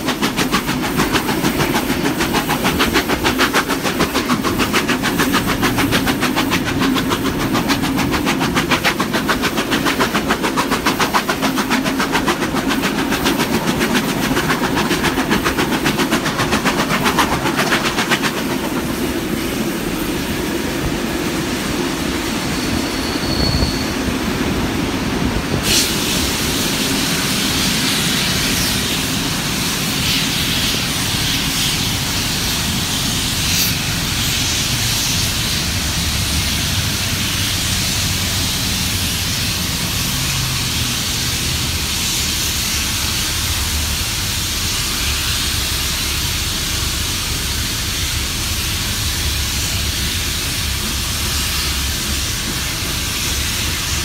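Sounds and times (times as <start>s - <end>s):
rushing hiss: 0.0s - 54.0s
train wheels rumbling on rails: 0.0s - 54.0s.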